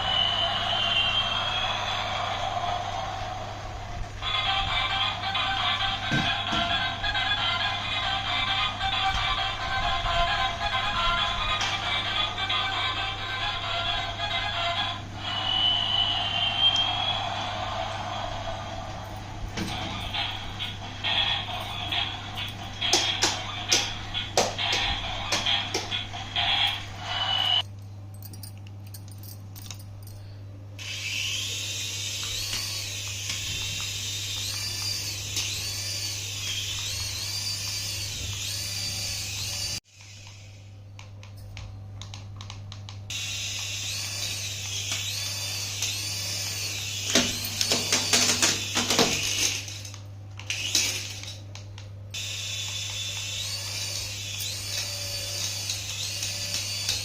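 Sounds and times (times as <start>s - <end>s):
toy motor and gears whirring: 4.2s - 29.8s, 30.8s - 41.4s, 43.1s - 51.5s, 52.1s - 57.0s.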